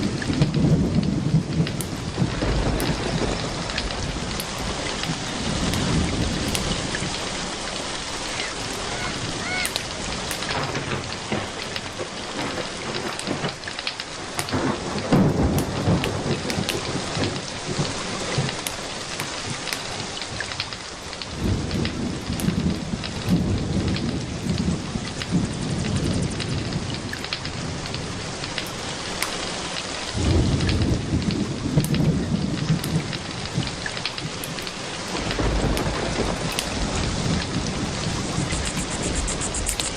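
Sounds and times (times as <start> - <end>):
thunder rumbling low: 0.0 - 29.2, 30.0 - 39.9
steady rain: 0.0 - 39.9
wood fire crackling: 0.0 - 39.9.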